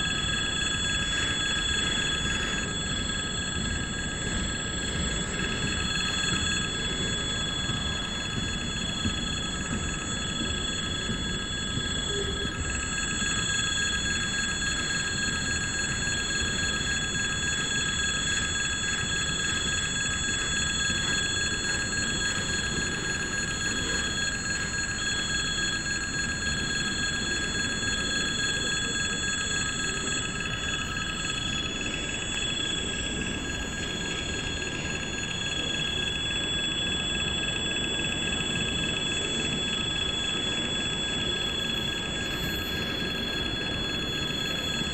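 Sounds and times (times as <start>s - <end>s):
level-crossing warning bell: 0.0s - 44.9s.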